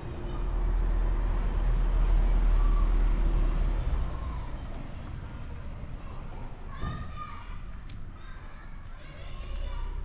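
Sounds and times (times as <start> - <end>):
car engine and tyre rumble: 0.0 - 8.2.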